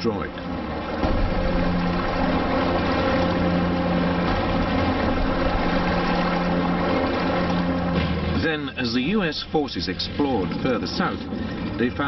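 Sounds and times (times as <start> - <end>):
engine drone: 0.0 - 12.0
low rumble: 0.0 - 12.0.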